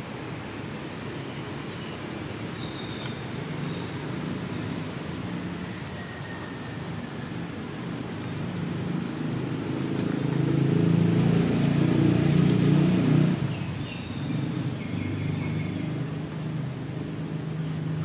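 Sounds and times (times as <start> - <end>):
vehicle engine rumbling: 3.2 - 18.0.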